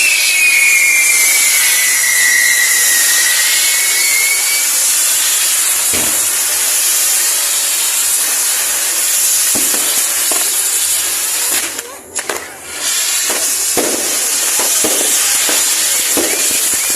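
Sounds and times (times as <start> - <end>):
firework crack: 0.0 - 16.9
fireworks hissing and whistling: 0.0 - 16.9.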